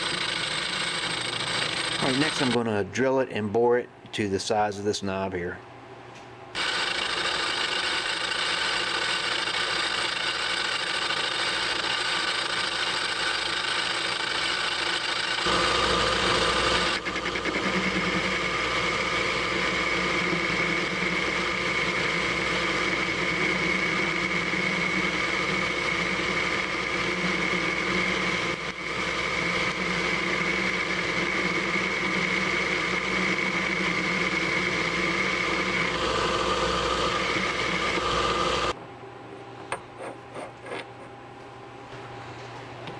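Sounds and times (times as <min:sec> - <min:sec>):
metal lathe humming and whining: 0:00.0 - 0:02.6, 0:06.6 - 0:38.8.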